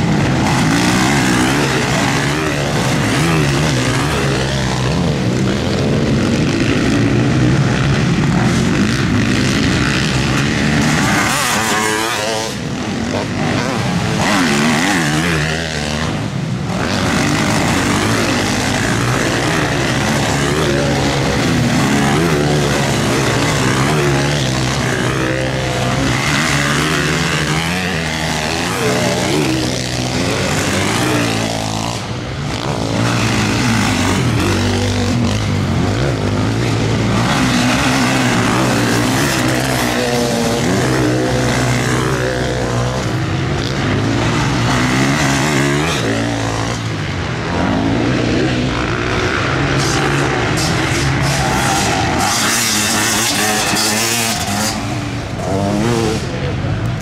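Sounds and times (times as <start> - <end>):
motocross bike engines revving: 0.0 - 57.0.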